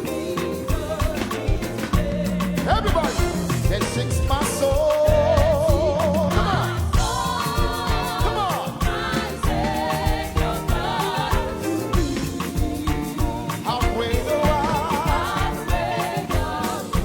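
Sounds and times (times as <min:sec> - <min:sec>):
bass: 0:00.0 - 0:17.0
steady drum beat: 0:00.0 - 0:17.0.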